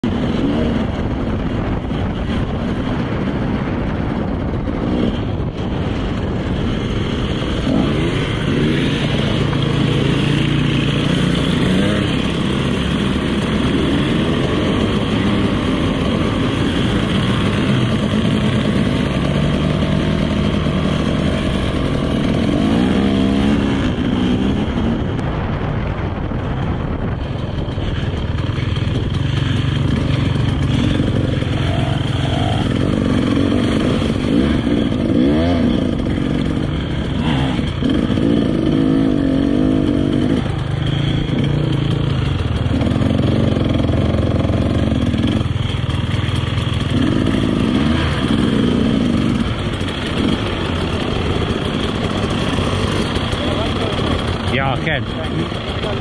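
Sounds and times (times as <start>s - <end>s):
dirt bike engine revving: 0.0s - 25.6s, 27.1s - 56.0s.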